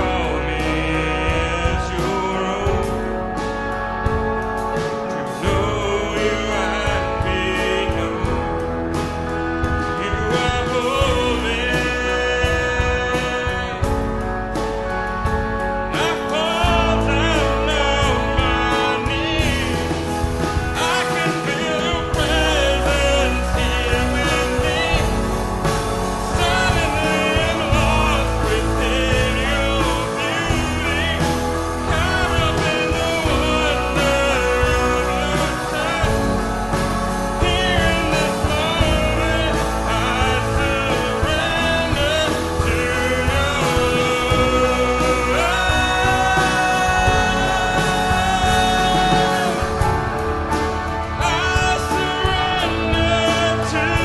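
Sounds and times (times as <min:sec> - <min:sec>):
person singing: 0:00.0 - 0:54.0
steady bass: 0:00.0 - 0:54.0
worship band playing: 0:00.0 - 0:54.0.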